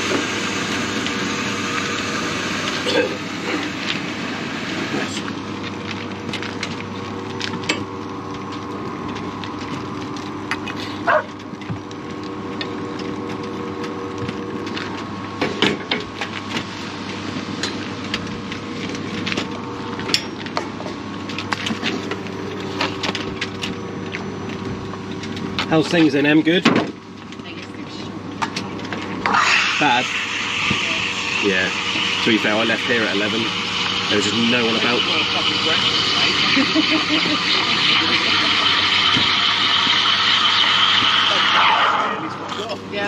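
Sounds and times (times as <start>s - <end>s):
espresso machine humming: 0.0s - 20.1s, 27.4s - 43.0s.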